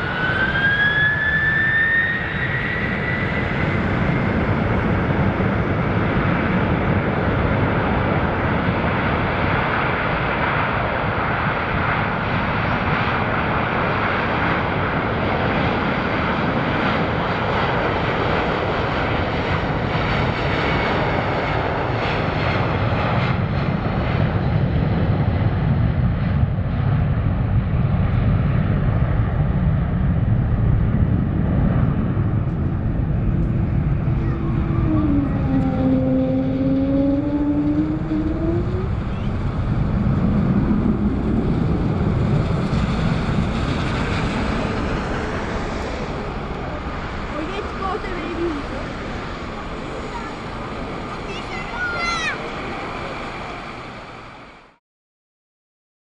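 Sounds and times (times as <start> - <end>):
jet engines at takeoff: 0.0 - 54.8.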